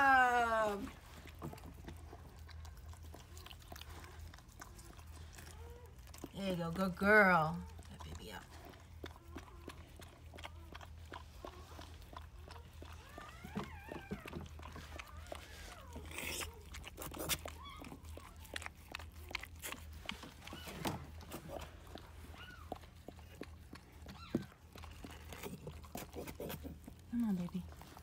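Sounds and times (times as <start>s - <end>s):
small wet clicks: 0.9s - 28.0s
puppies squeaking and crying: 1.6s - 6.7s, 7.3s - 28.0s.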